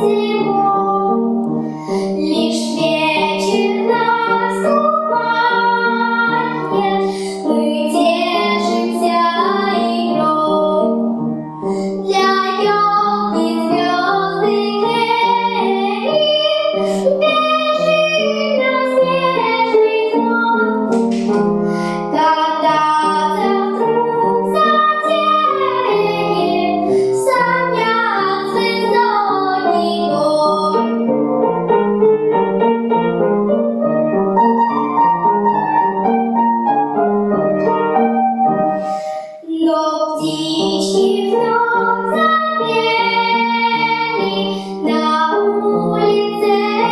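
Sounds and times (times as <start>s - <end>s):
girl singing: 0.0s - 31.2s, 38.8s - 46.9s
upright piano accompaniment: 0.0s - 46.9s.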